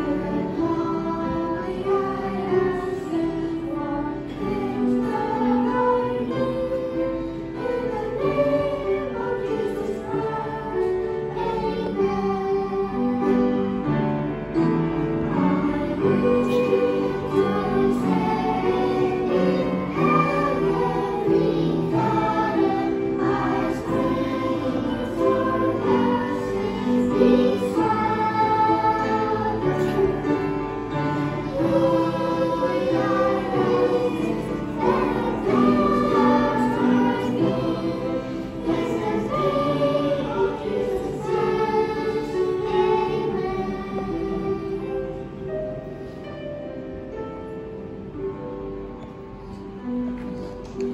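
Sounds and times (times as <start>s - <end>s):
children's choir singing: 0.0s - 50.9s.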